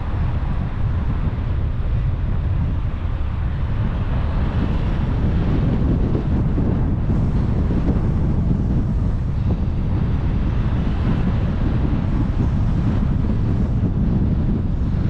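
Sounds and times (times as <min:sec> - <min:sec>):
rushing wind: 0:00.0 - 0:15.0
tyre and road noise: 0:00.0 - 0:15.0.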